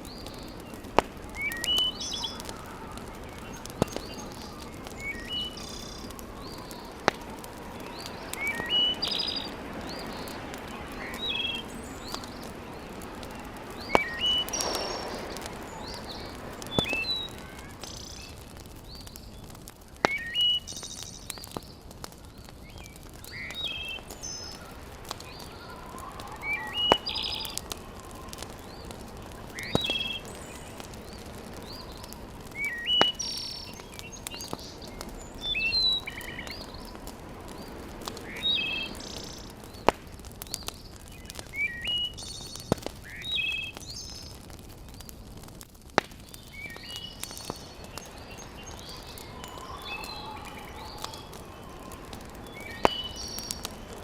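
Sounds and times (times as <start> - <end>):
birds chirping: 0.0 - 54.0
soft steady hiss: 0.0 - 54.0
wood fire crackling pops: 0.0 - 54.0.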